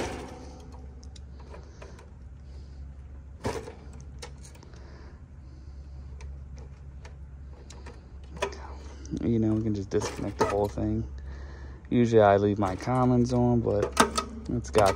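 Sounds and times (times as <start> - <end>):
equipment humming: 0.0 - 14.9.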